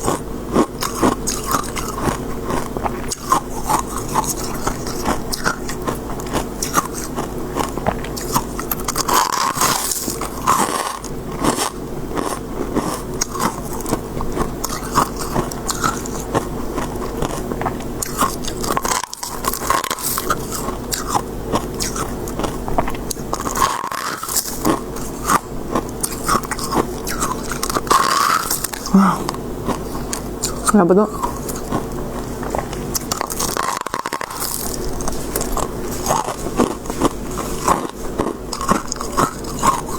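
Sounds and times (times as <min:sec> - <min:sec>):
chewing crunchy frost: 0:00.0 - 0:39.9
steady low hum: 0:00.0 - 0:39.9.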